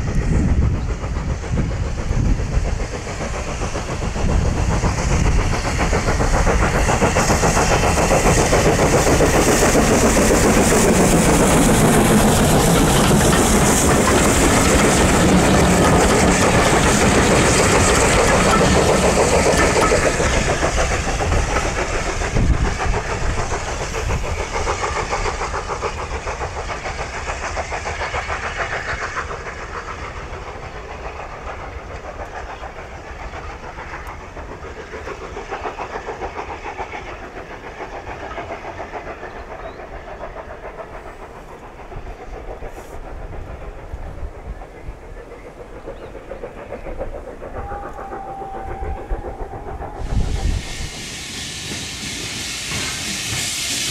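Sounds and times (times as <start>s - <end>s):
steam train running past: 0.0s - 53.9s.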